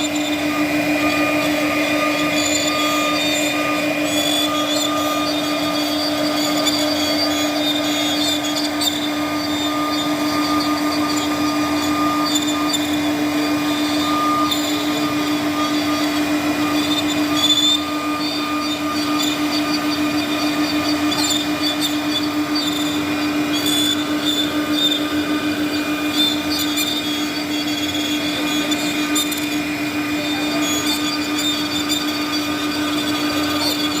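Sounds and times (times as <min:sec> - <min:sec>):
router spindle whine: 0:00.0 - 0:34.0
scratchy wood cutting: 0:00.0 - 0:34.0.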